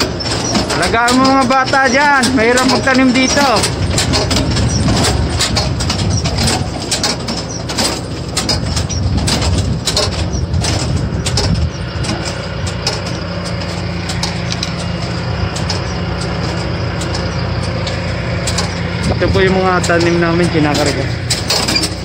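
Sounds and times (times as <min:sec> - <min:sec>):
clicks and clatter: 0:00.0 - 0:22.0
tractor engine running: 0:00.0 - 0:22.0.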